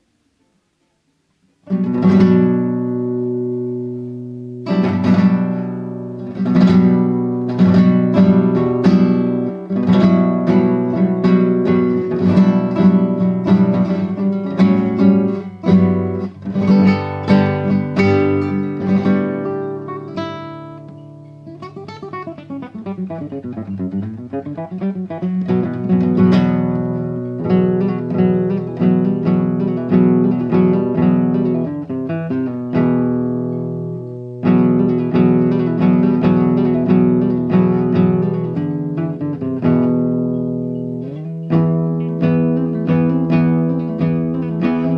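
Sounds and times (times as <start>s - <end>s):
acoustic guitar strumming: 1.6s - 44.9s.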